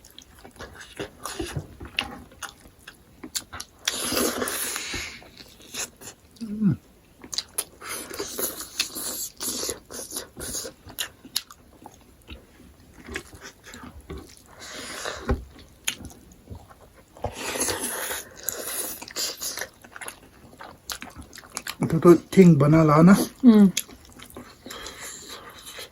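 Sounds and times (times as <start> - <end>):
close chewing and biting: 0.0 - 6.5, 7.2 - 22.3, 23.2 - 25.9.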